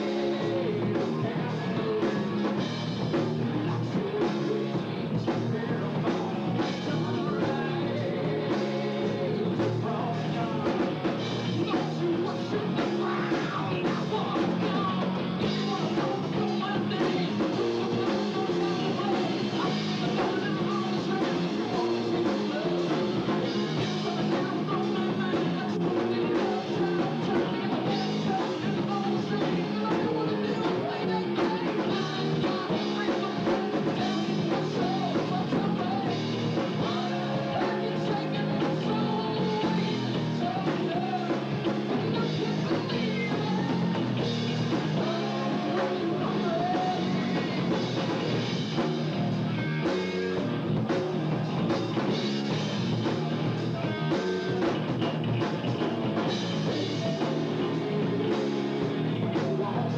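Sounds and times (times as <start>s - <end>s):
person singing: 0.0s - 48.8s, 53.0s - 59.9s
drum kit: 0.0s - 59.9s
electric guitars: 0.0s - 59.9s.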